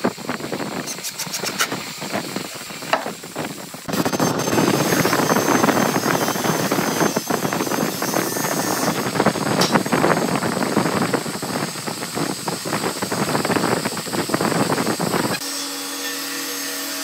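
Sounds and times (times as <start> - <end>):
loud steady hiss: 0.0 - 17.0.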